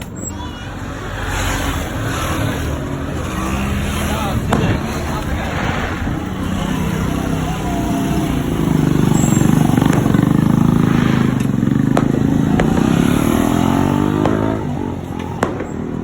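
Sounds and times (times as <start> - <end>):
vehicle engine passing by: 0.6 - 16.0.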